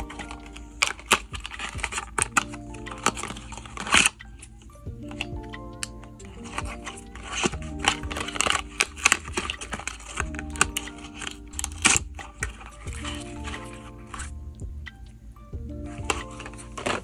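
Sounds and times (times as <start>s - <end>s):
plastic packs clicking and crinkling: 0.0s - 14.3s, 15.9s - 17.0s
soft background music: 0.0s - 17.0s.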